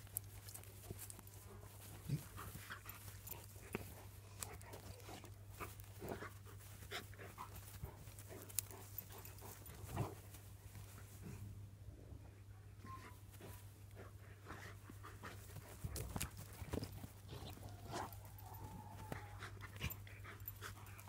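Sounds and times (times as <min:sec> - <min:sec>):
dogs scuffling: 0:00.0 - 0:11.4, 0:15.1 - 0:21.0
dogs panting: 0:00.2 - 0:11.4, 0:13.4 - 0:21.0.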